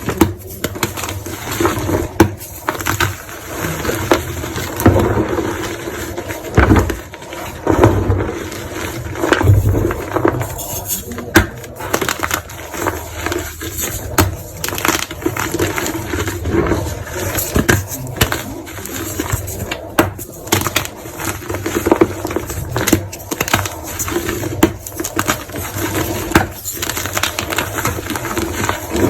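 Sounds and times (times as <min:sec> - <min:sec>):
chalk crunching and crackling: 0:00.0 - 0:29.0.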